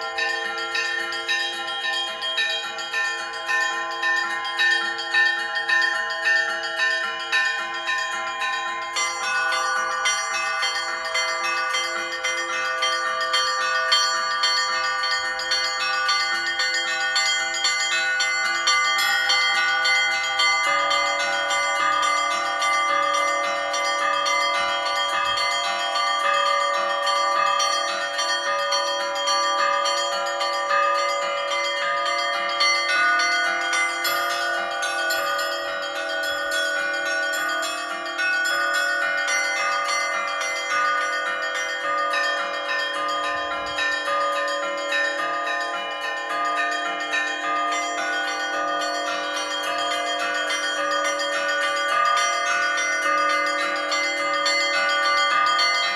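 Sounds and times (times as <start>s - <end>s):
large bells ringing: 0.0s - 55.9s.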